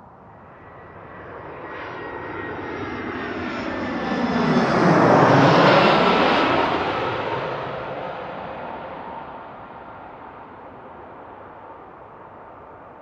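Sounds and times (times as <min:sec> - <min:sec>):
jet engine roar overhead: 0:00.0 - 0:13.0.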